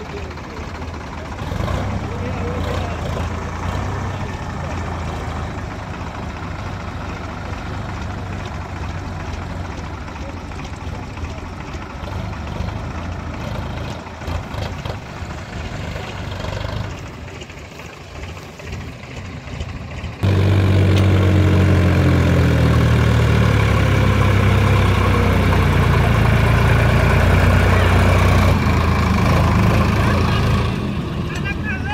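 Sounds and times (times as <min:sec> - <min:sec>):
diesel tractor engine under load: 0:00.0 - 0:31.9.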